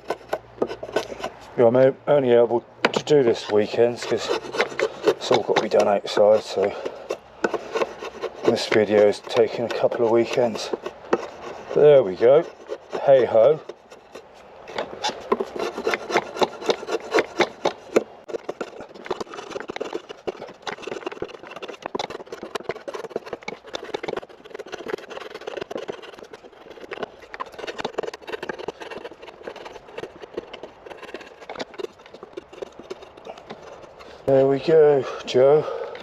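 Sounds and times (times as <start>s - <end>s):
blade scraping wood: 0.0s - 36.0s.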